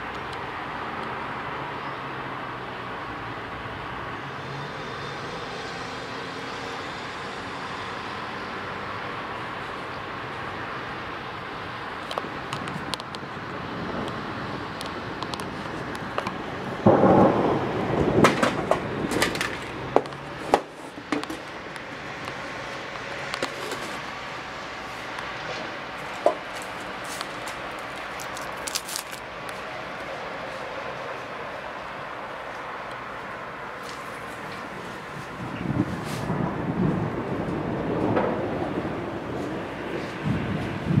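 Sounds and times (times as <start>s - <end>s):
distant city traffic: 0.0s - 41.0s
loud rush of noise: 0.0s - 41.0s.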